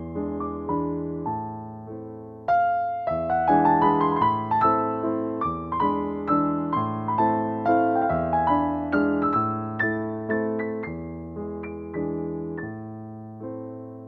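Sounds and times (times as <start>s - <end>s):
solo piano waltz: 0.0s - 14.0s.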